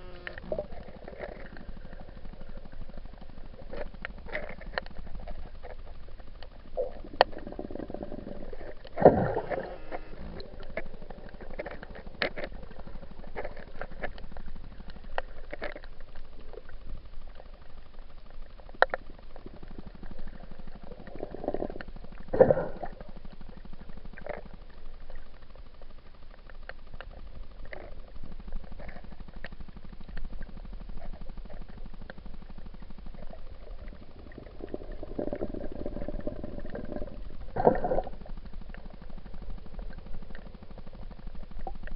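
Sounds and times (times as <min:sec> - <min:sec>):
faint clicks: 0:00.0 - 0:41.9
low underwater rumble: 0:00.0 - 0:41.9.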